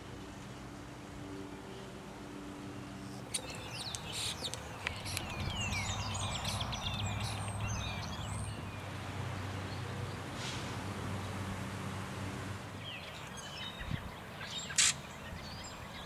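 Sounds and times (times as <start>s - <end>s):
songbird singing: 0.0s - 11.4s, 12.6s - 16.0s.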